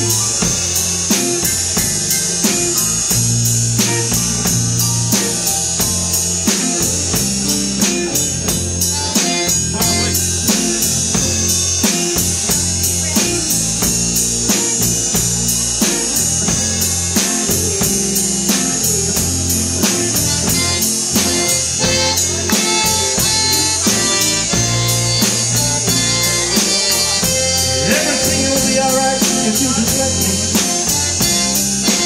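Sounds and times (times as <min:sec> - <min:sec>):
drum kit beat: 0:00.0 - 0:32.0
live band playing: 0:00.0 - 0:32.0.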